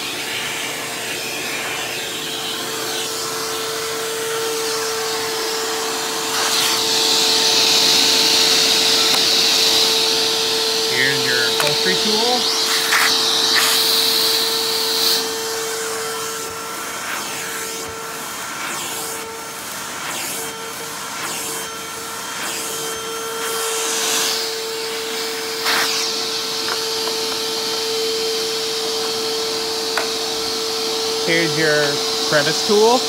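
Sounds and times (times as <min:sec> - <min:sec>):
hose tool scrubbing carpet: 0:00.0 - 0:33.0
vacuum cleaner motor whine: 0:00.0 - 0:33.0.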